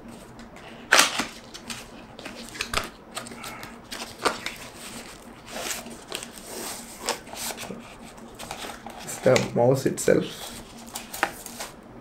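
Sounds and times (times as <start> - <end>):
cardboard and plastic scrapes and rustles: 1.2 - 9.6, 10.2 - 11.8.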